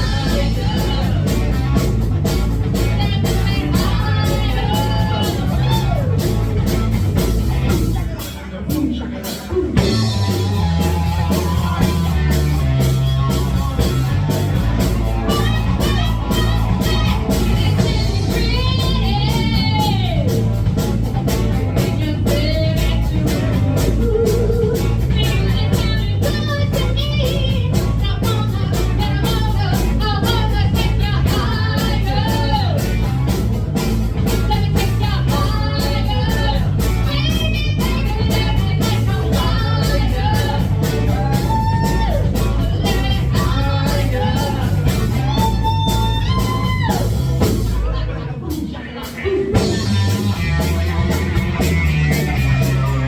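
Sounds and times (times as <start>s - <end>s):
lead singer singing: 0.0s - 6.7s, 7.7s - 33.3s, 34.3s - 53.0s
electric guitar: 0.0s - 8.4s, 9.2s - 48.4s, 49.0s - 53.0s
bass guitar: 0.0s - 53.0s
drums: 0.0s - 53.0s.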